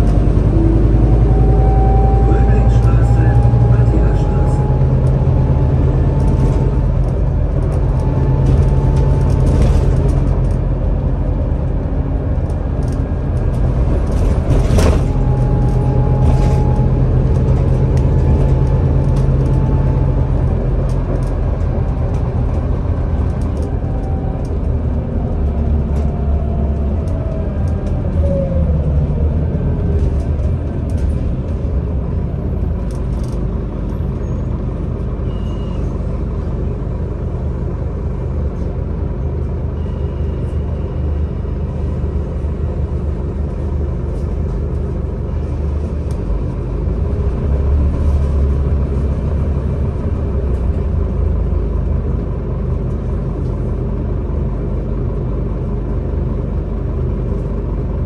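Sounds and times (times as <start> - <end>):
bus engine drone: 0.0 - 58.0
road and tyre noise: 0.0 - 58.0.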